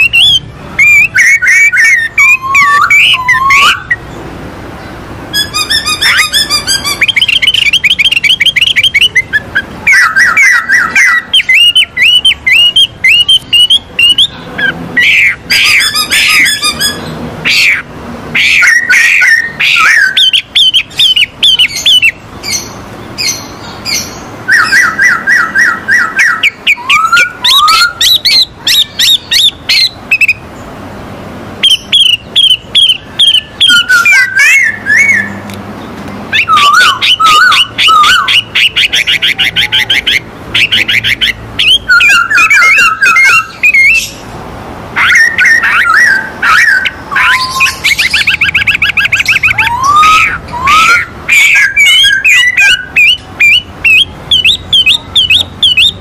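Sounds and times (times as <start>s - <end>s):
birds singing whistled notes: 0.0s - 30.8s, 31.6s - 44.4s, 45.0s - 56.0s.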